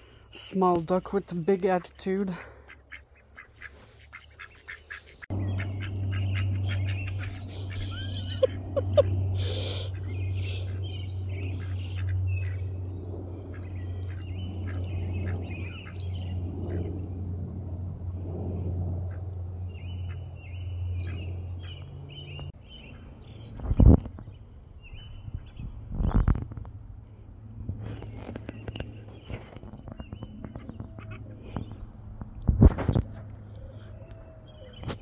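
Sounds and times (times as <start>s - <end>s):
steady low hum: 0.0s - 34.6s.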